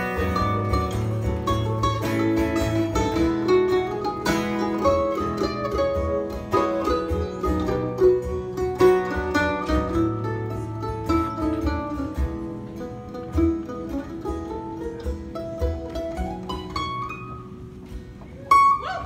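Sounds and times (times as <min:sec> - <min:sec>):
acoustic guitar chords: 0:00.0 - 0:18.8
mandolin picking melody: 0:00.0 - 0:19.0.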